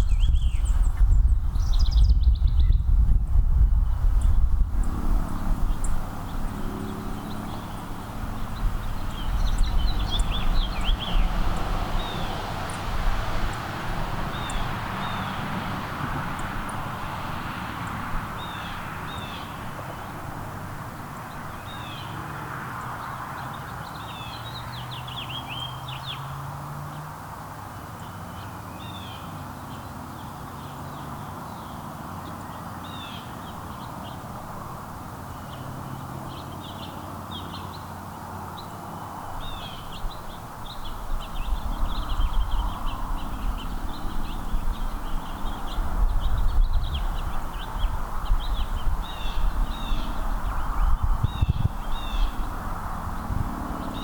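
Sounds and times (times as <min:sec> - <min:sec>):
songbirds chirping: 0:00.0 - 0:02.9, 0:03.9 - 0:54.0.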